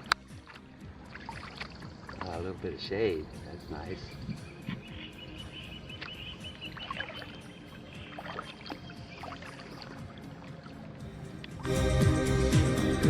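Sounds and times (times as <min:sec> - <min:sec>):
kayak paddle strokes in water: 0:00.0 - 0:12.7.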